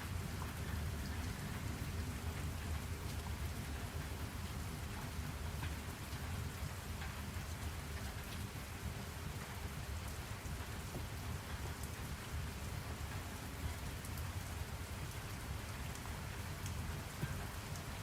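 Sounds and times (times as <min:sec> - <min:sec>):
rain drop ticks: 0:00.2 - 0:14.3, 0:15.1 - 0:18.0.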